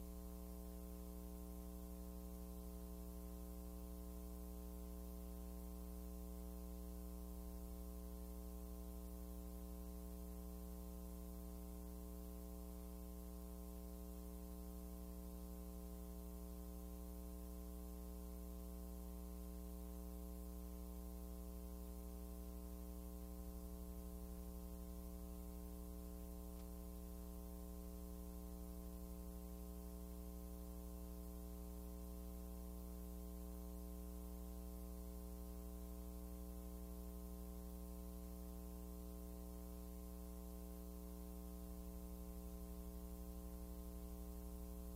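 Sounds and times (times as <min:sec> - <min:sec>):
electrical mains hum: 0:00.0 - 0:44.9.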